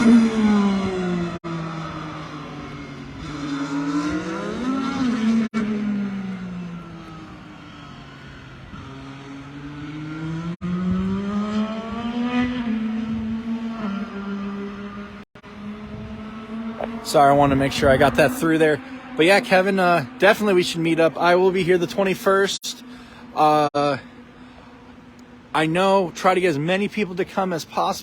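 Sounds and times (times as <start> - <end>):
race car engine: 0.0 - 28.0.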